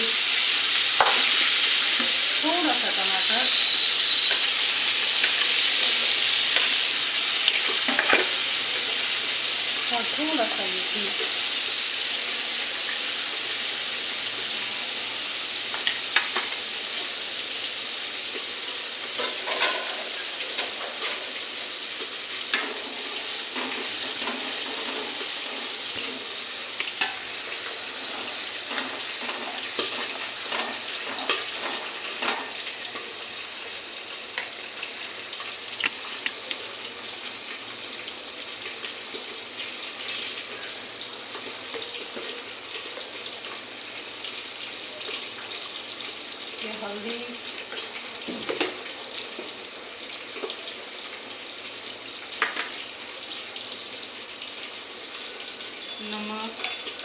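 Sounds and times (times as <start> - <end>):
chicken sizzling in hot oil: 0.0 - 57.0.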